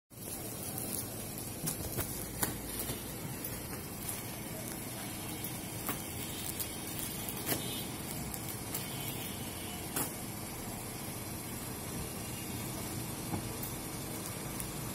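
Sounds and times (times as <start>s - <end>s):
steady background hiss: 0.1s - 14.9s.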